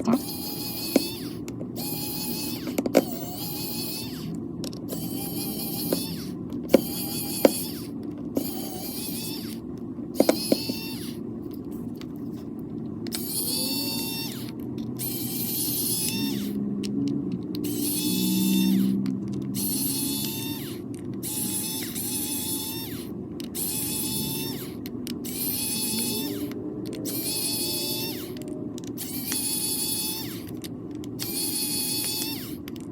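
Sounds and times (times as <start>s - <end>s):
electric screwdriver whirring: 0.0s - 9.6s, 10.2s - 12.5s, 13.1s - 32.9s
sharp clicks: 0.0s - 32.9s.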